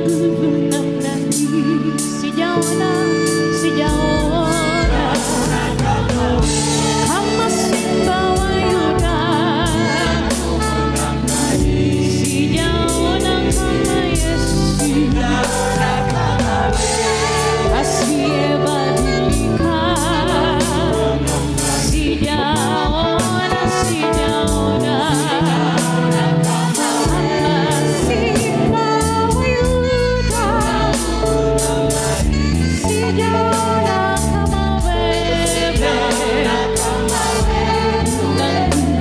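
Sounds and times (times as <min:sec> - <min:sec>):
backing band with bass and drums: 0:00.0 - 0:39.0
voices singing with vibrato: 0:02.5 - 0:29.6, 0:30.3 - 0:39.0.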